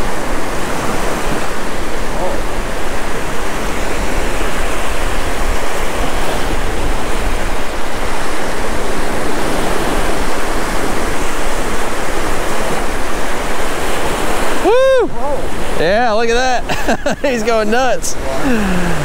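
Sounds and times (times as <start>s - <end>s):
wind on microphone: 0.0s - 15.9s
waves breaking on sandy beach: 0.0s - 19.0s.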